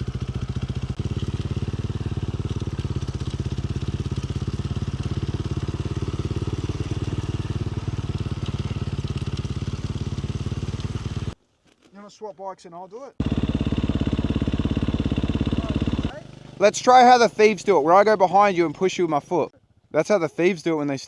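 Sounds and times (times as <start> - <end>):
dirt bike engine idling: 0.0 - 11.4, 13.2 - 19.8.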